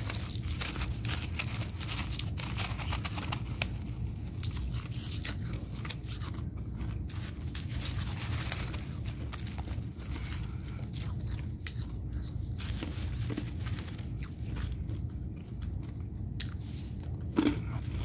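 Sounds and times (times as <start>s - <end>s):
frost crunching and crackling: 0.0s - 18.0s.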